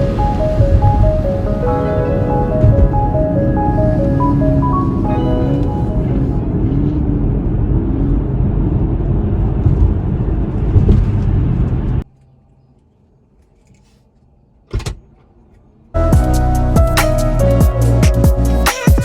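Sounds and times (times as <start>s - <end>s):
road and tyre noise: 0.0s - 18.7s.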